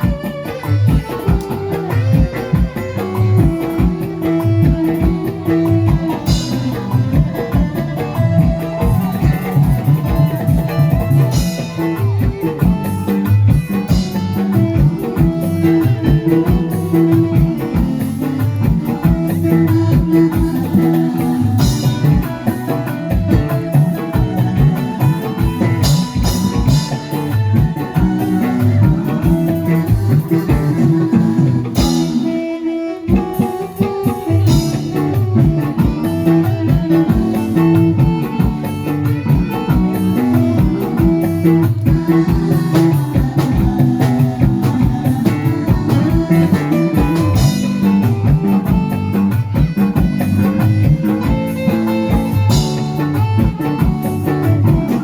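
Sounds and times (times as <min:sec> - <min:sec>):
guitar-led band music: 0:00.0 - 0:55.0.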